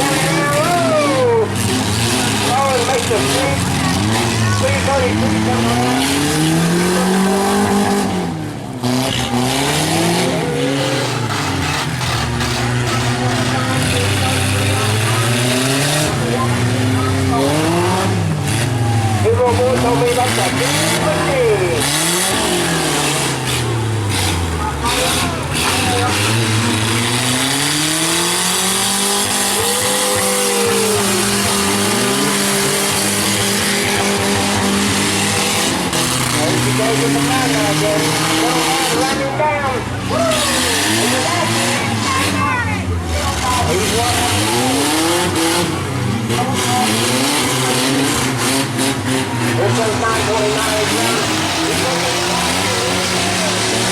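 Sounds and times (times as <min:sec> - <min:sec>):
truck engines revving: 0:00.0 - 0:53.9.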